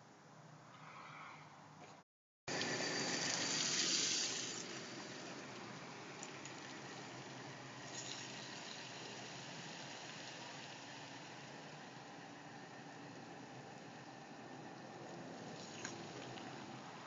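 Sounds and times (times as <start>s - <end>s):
pickup truck engine and tyres: 0.0s - 17.0s.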